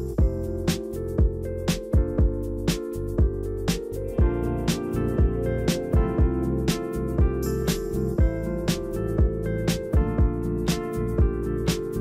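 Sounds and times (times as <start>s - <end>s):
deep kick drum: 0.0s - 12.0s
held chords: 0.0s - 12.0s.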